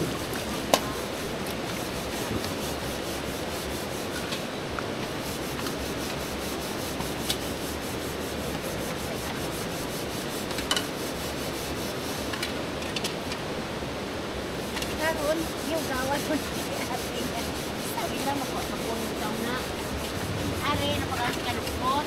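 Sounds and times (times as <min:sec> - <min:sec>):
scrubbing pots by hand: 0:00.0 - 0:12.5, 0:14.6 - 0:22.0.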